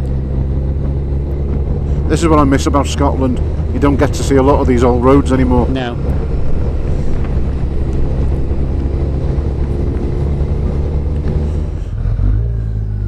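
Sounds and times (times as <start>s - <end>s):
wind noise: 0.0s - 11.9s
tyre noise on wet road: 0.0s - 12.9s
motorcycle engine hum: 0.0s - 13.0s.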